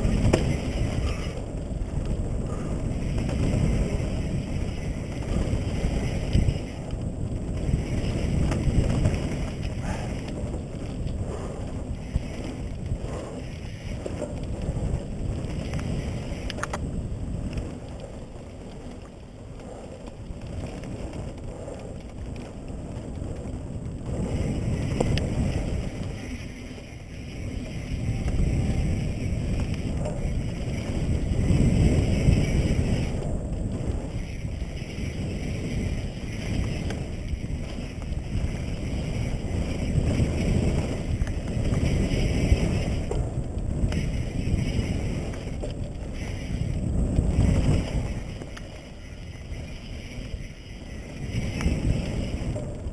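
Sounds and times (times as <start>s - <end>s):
mountain bike tyres on dirt trail: 0.0s - 52.9s
sharp ticks from bike: 0.0s - 52.9s
wind rumbling on microphone: 0.0s - 52.9s.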